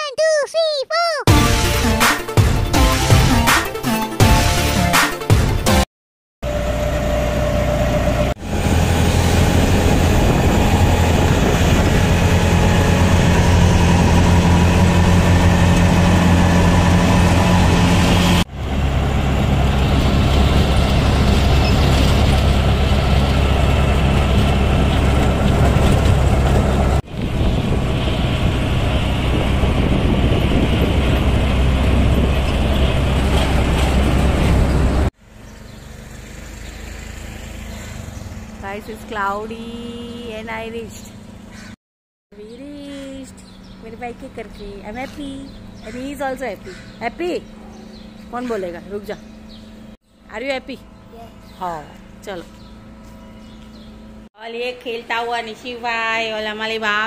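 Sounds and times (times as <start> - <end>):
auto-rickshaw engine and road noise: 6.4 - 41.8, 42.4 - 57.0
quiet outdoor street noise: 6.4 - 57.0.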